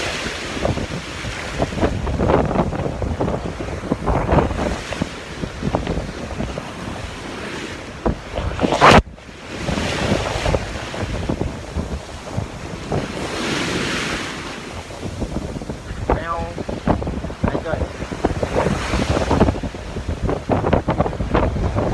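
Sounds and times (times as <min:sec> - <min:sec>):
sea waves washing in: 0:00.0 - 0:21.9
wind buffeting microphone: 0:00.0 - 0:21.9.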